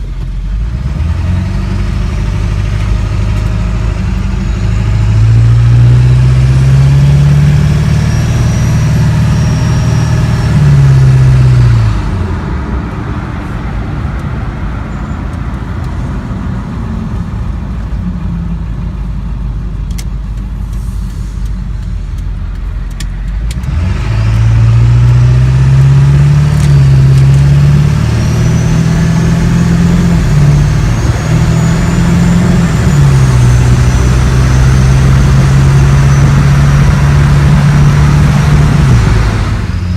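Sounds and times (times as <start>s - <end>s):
diesel engine accelerating: 0.0s - 39.9s.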